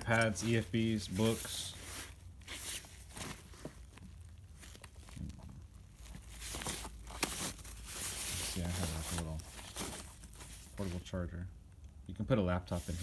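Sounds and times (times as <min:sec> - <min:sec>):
hand rustling in fabric bag: 0:00.0 - 0:11.1.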